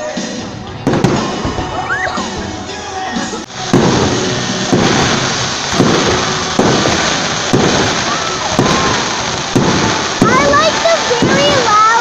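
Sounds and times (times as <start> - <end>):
fireworks bangs: 0.0 - 12.0
fireworks crackling and rumbling: 0.0 - 12.0.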